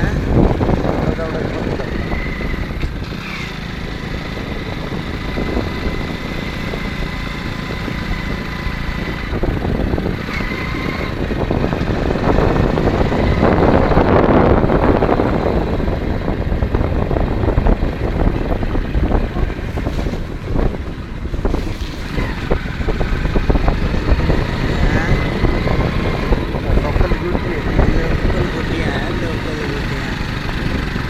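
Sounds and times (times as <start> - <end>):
motor vehicle running: 0.0 - 31.0
wind noise on microphone: 0.0 - 31.0.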